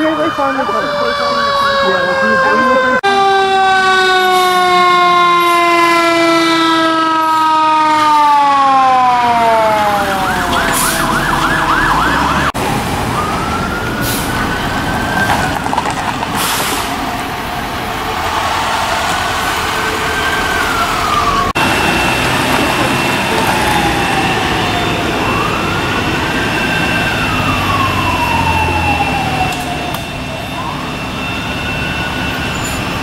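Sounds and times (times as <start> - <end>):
fast siren yelp: 0.0 - 15.6, 19.3 - 33.0
fire engine siren wailing: 0.0 - 33.0.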